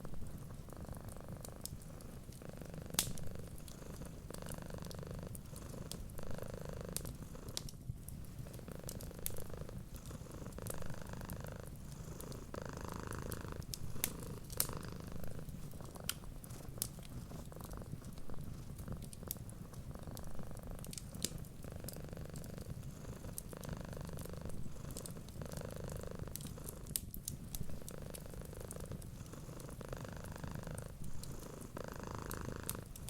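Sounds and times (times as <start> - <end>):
cat purring: 0.0 - 33.0
wood fire crackling: 0.0 - 33.0.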